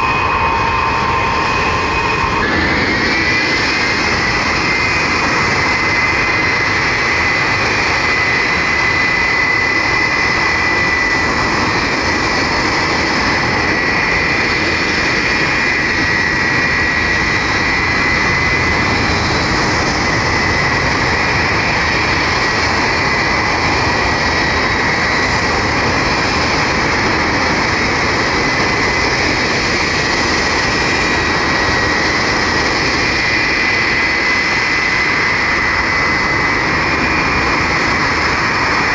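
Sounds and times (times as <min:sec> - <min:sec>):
high-pitched engine whine: 0:00.0 - 0:38.9
jet engines roaring: 0:00.0 - 0:38.9.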